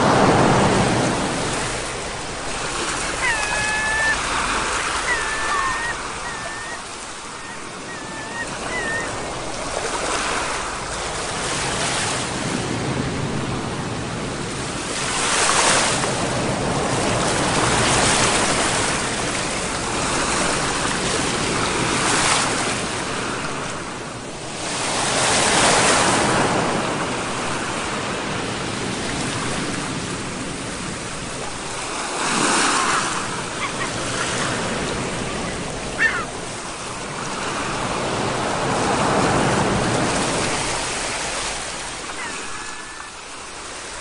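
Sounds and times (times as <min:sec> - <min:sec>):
sea waves washing in: 0:00.0 - 0:44.0.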